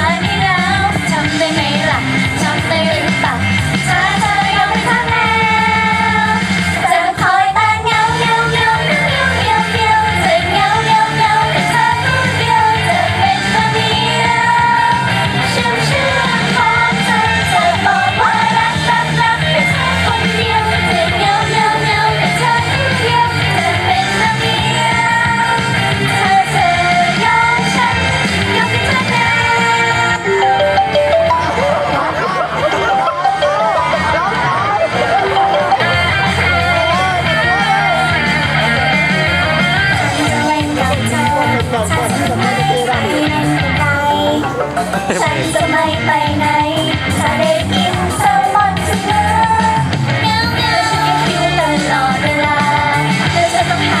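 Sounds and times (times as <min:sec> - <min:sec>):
pop song with band: 0:00.0 - 0:54.0.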